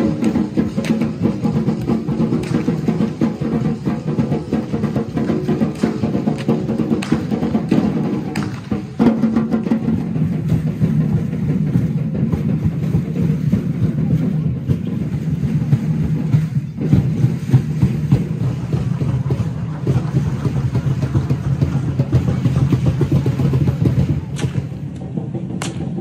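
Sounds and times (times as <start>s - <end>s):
clicking and rattling percussion: 0.0s - 26.0s
drums beating: 0.0s - 26.0s.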